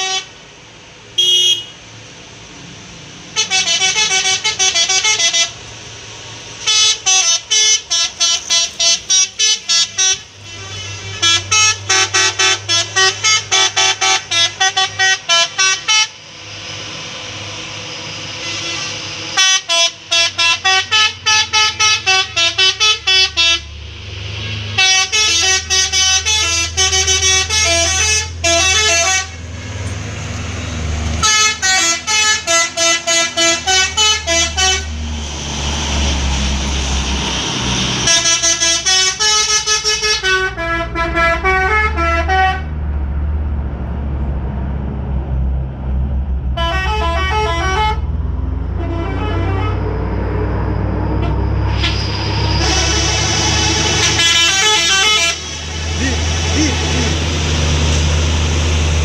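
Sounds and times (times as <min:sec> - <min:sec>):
truck musical horns: 0:00.0 - 0:00.5, 0:01.1 - 0:02.0, 0:03.3 - 0:43.0, 0:46.4 - 0:59.0
heavy engine rumbling: 0:00.0 - 0:59.0.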